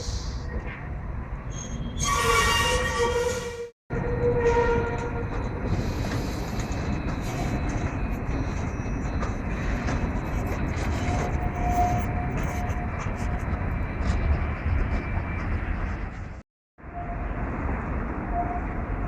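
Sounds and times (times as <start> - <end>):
tram wheel squeal: 0.0 - 17.4, 18.1 - 19.0
tram wheels rumbling on rail: 0.0 - 19.0.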